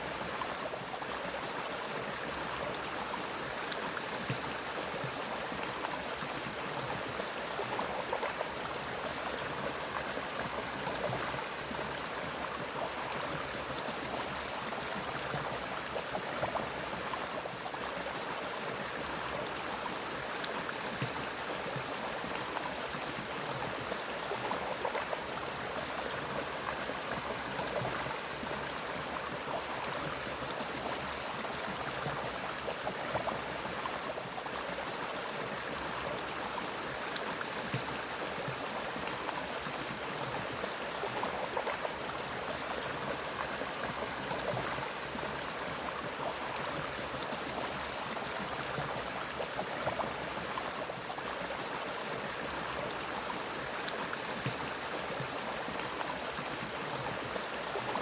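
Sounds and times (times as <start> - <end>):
stream rushing and babbling: 0.0 - 58.0.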